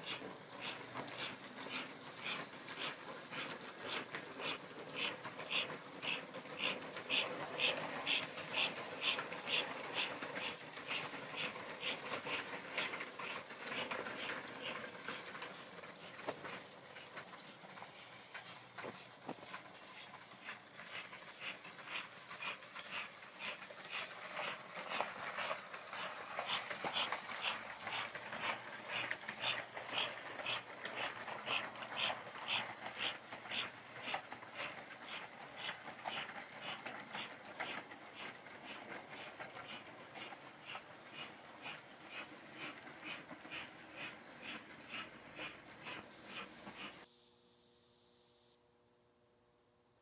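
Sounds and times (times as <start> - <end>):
model train rolling rumble: 0.0 - 47.1
regular ticking of train wheels: 0.0 - 47.1.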